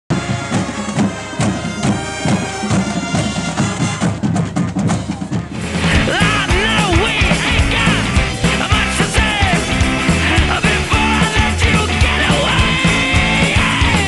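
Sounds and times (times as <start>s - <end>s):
rock soundtrack music with drums: 0.1s - 14.0s.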